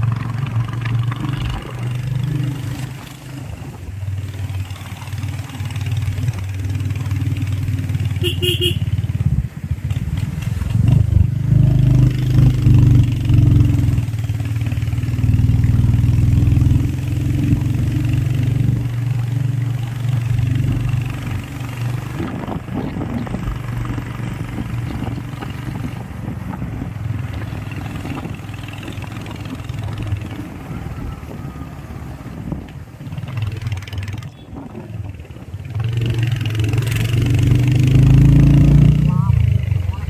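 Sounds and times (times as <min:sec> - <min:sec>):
motorcycle engine and exhaust: 0:00.0 - 0:40.0.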